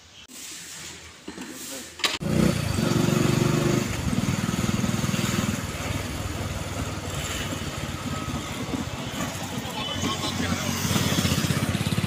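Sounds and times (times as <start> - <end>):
road and wind noise: 2.0 - 12.0
motorbike engine running: 2.2 - 12.0.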